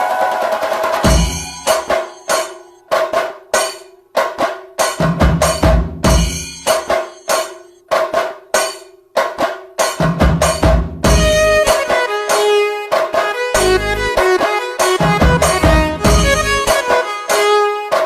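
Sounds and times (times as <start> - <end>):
sharp drum strikes: 0.4 - 18.0.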